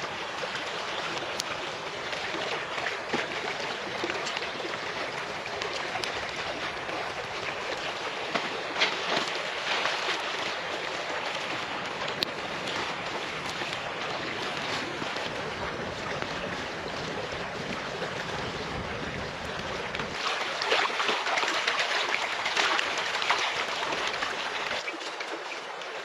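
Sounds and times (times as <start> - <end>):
river rushing over stones: 0.0 - 26.0.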